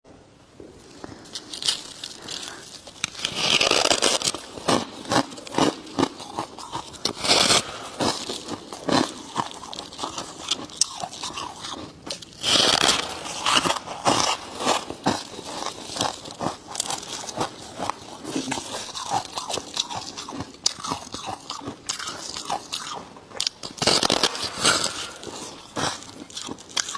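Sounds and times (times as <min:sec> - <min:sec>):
frost being chewed with crunches: 0:00.8 - 0:26.9.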